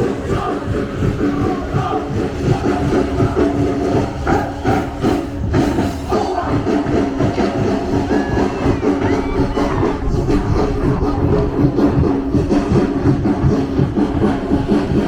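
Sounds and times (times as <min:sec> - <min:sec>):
live stage music: 0:00.0 - 0:15.0.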